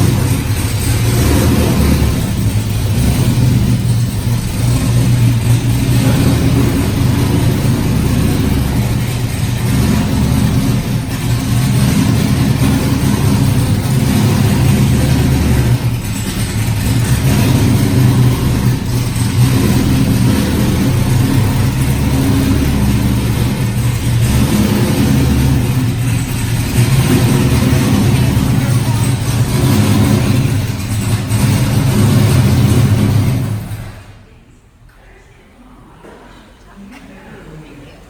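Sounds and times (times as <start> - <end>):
car engine running: 0.0 - 34.1.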